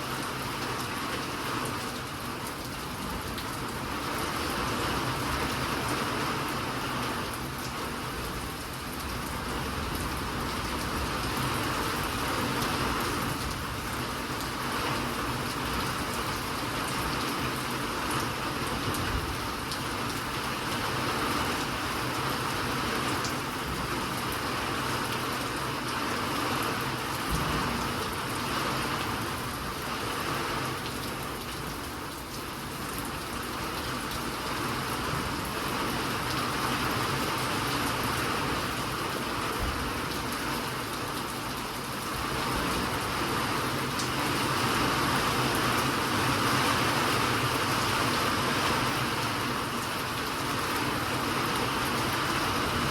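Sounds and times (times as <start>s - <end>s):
steady rain hissing: 0.0s - 52.9s.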